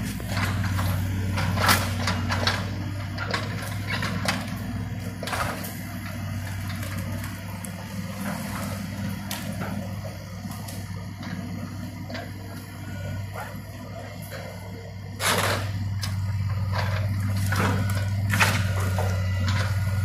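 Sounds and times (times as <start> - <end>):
excavator diesel engine: 0.0 - 20.0.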